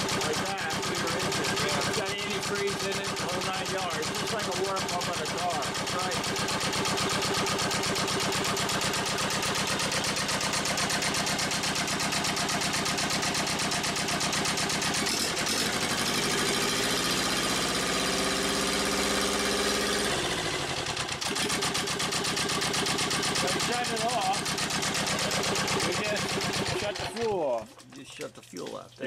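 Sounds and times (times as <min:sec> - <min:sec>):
diesel engine running and revving: 0:00.0 - 0:27.4.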